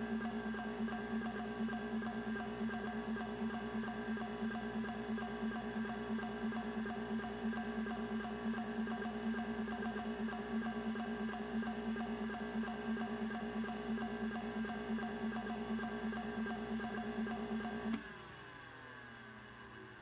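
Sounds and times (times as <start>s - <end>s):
hard drive spindle whine and hum: 0.0s - 20.0s.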